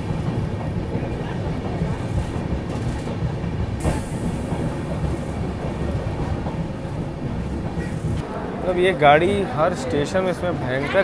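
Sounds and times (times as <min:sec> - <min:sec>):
train coaches rumbling on rails: 0:00.0 - 0:11.0.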